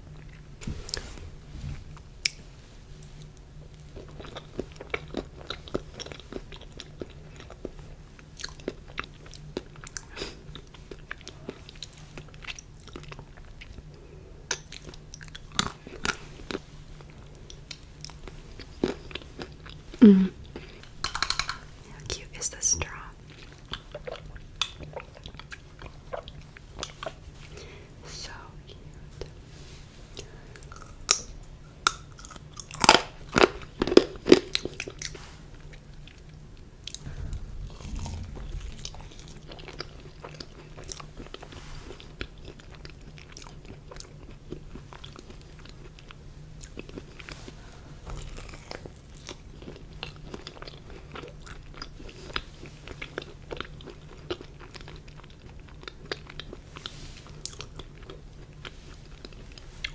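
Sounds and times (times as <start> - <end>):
steady chewing: 1.9 - 21.0, 22.8 - 29.4, 31.9 - 59.9.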